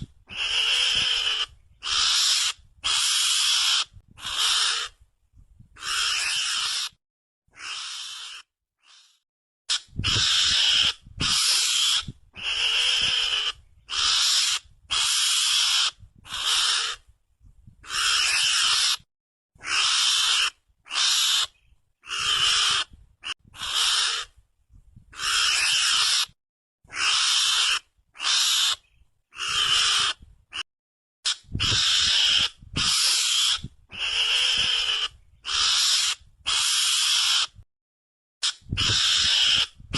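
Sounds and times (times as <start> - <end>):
harsh raspy screeching calls: 0.0 - 5.0, 5.8 - 7.0, 7.6 - 17.0, 17.8 - 24.3, 25.2 - 30.6, 31.3 - 37.6, 38.4 - 39.8.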